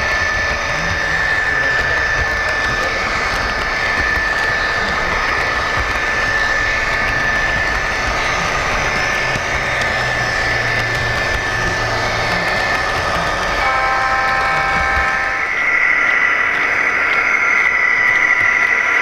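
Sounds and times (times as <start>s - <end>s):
model locomotive diesel engine sound: 0.0s - 19.0s.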